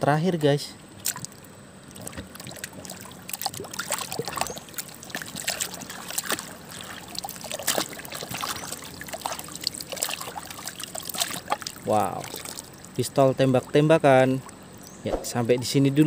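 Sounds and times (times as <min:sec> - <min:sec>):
water splashing and dribbling: 0:01.0 - 0:16.0.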